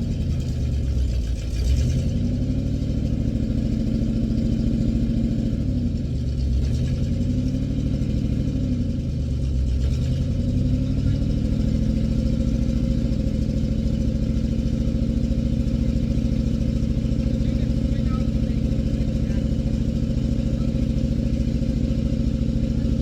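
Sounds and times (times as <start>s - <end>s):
backhoe engine running: 0.0s - 23.0s.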